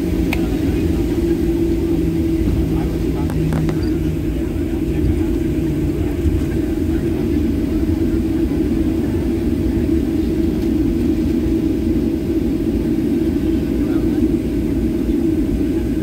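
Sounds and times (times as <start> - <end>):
jet engines droning: 0.0 - 16.0
wheels rumbling on taxiway: 0.0 - 16.0.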